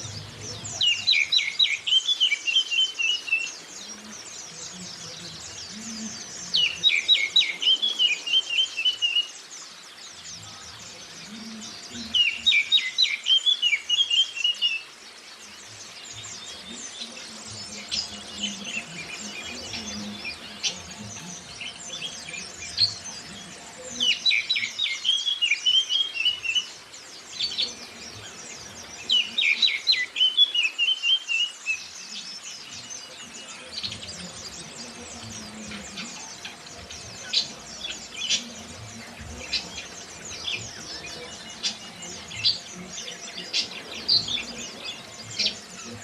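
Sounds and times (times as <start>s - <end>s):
high thin bird twittering: 0.0s - 46.0s.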